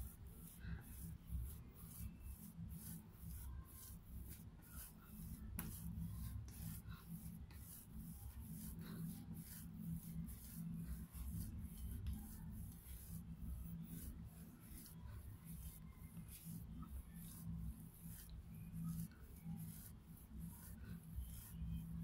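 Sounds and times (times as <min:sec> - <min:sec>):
hands kneading dough: 0:00.0 - 0:22.0.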